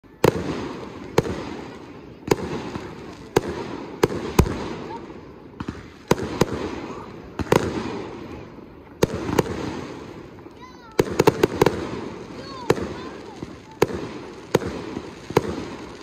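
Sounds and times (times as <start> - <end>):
fireworks bangs echoing: 0.0 - 16.0.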